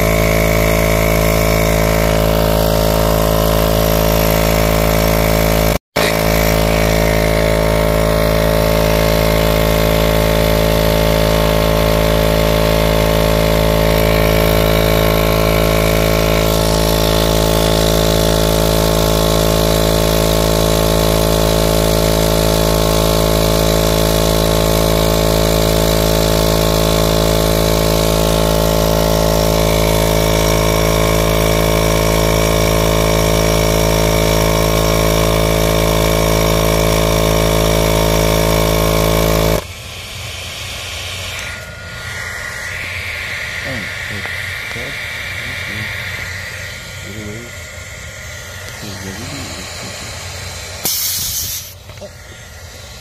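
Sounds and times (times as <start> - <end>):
motor droning steadily: 0.0 - 53.0.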